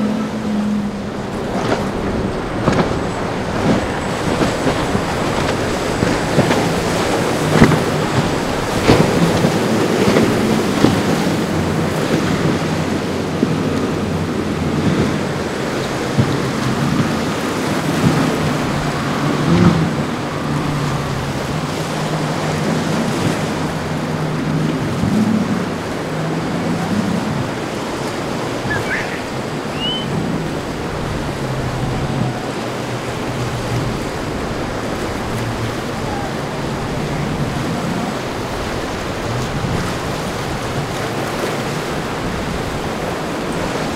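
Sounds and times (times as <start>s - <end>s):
boat engines humming: 0.0s - 43.9s
waves washing: 0.0s - 43.9s
wind rumbling on microphone: 0.0s - 43.9s.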